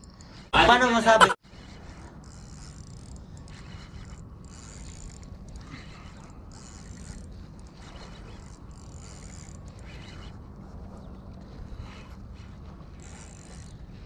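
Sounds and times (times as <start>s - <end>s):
fishing reel gears whirring: 0.0s - 0.5s, 1.4s - 14.0s.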